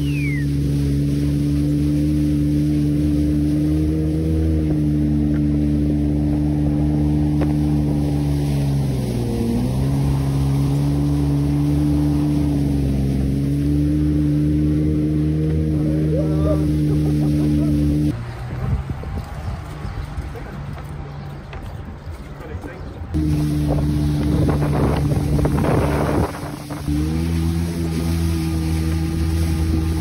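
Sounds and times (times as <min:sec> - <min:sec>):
jet ski engine running: 0:00.0 - 0:30.0.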